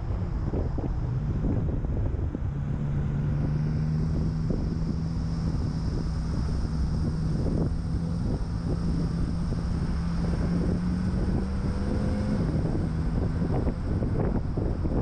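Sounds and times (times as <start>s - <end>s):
car engine running: 0.0s - 15.0s
wind rumbling on microphone: 0.0s - 15.0s.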